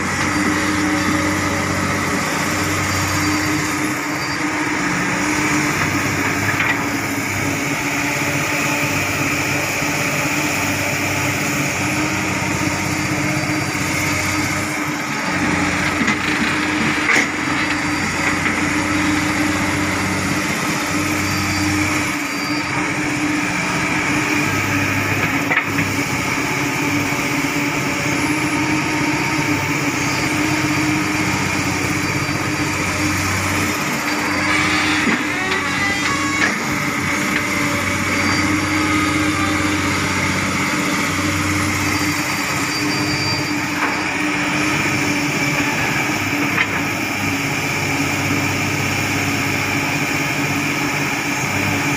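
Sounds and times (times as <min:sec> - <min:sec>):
excavator engine drone and whine: 0:00.0 - 0:51.9.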